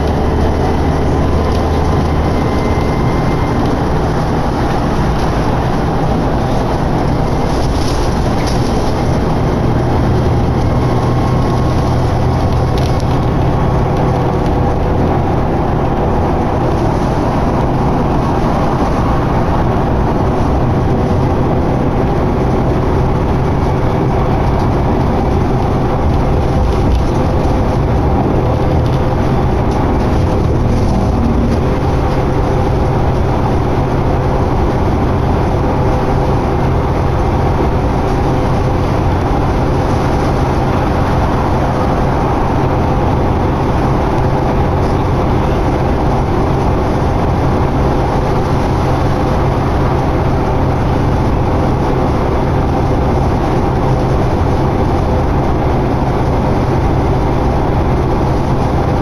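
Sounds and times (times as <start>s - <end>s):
bus engine drone: 0.0s - 59.0s
road noise: 0.0s - 59.0s.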